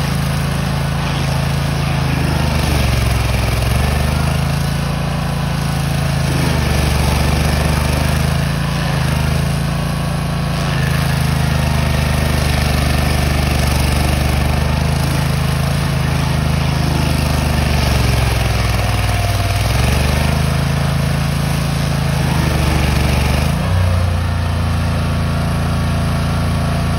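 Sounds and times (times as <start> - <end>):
cutter wheel grinding stump: 0.0 - 26.9
stump grinder engine running: 0.0 - 26.9.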